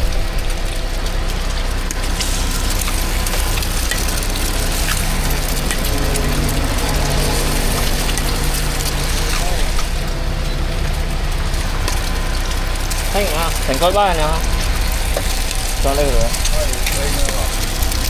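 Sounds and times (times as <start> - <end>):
low mechanical hum: 0.0 - 18.0
small crackles and clicks: 0.0 - 18.0.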